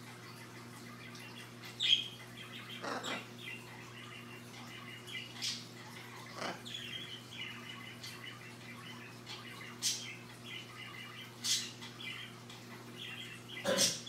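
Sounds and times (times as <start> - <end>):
parrot chirping softly: 0.0 - 14.0.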